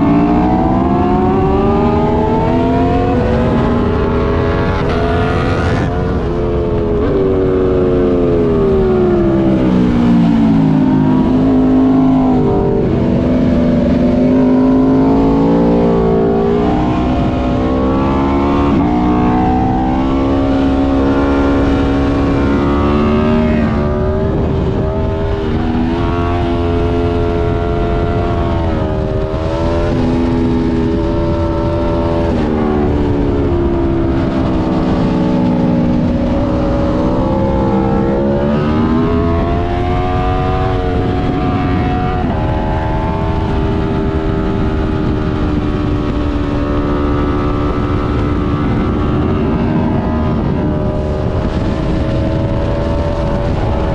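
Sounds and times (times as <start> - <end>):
motorcycle engine accelerating: 0.0 - 53.9
wind rush on microphone: 0.0 - 53.9.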